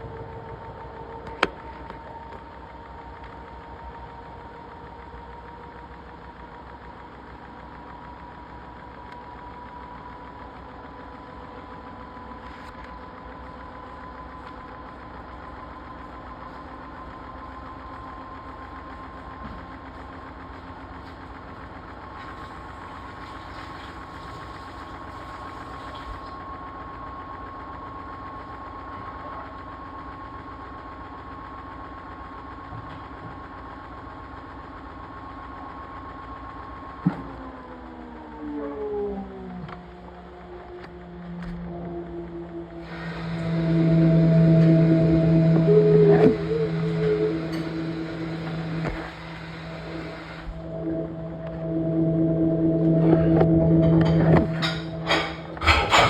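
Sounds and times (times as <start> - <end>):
washing machine motor whining: 0.0 - 56.0.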